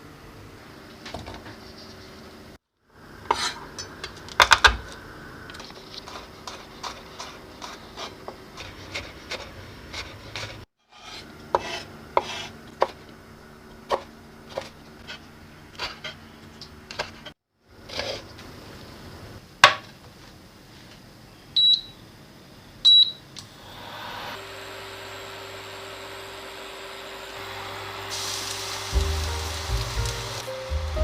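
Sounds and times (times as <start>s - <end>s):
steady hum and hiss: 0.0s - 8.6s, 11.3s - 31.0s.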